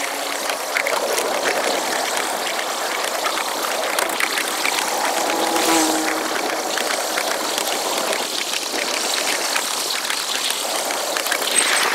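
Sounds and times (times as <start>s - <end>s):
wheels clicking on rails: 0.0s - 11.9s.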